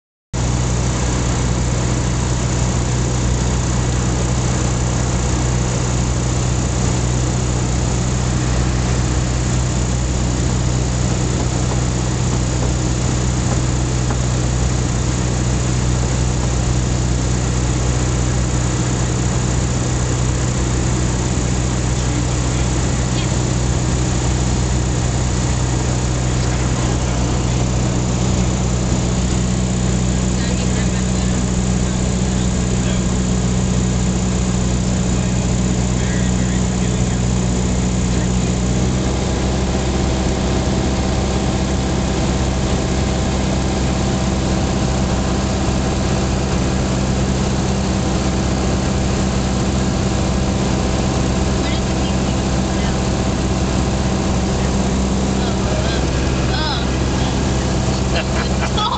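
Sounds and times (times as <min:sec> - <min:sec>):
aircraft engine and propeller drone: 0:00.4 - 0:58.9.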